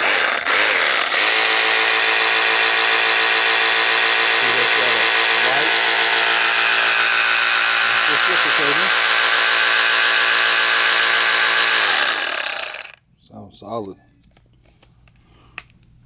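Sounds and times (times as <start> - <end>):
reciprocating saw running: 0.0 - 13.0.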